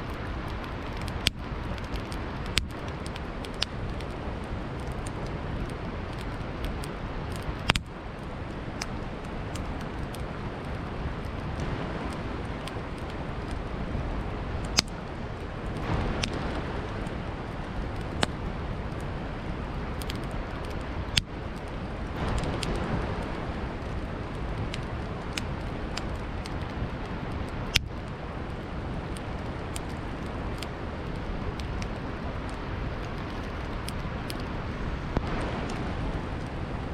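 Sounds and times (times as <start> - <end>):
campfire crackling and popping: 0.0 - 36.9
river water flowing: 0.0 - 36.9.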